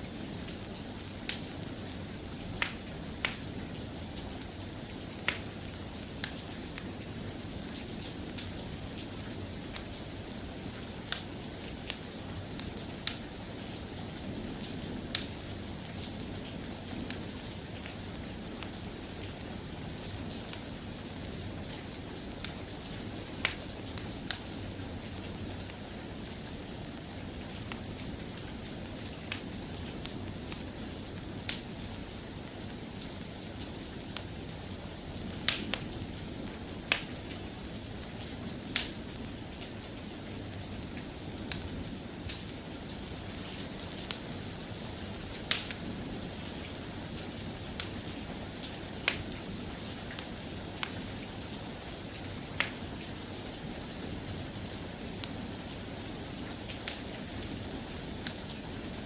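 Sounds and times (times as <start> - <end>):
soft rain: 0.0 - 59.0
wood fire crackling and popping: 0.4 - 59.0.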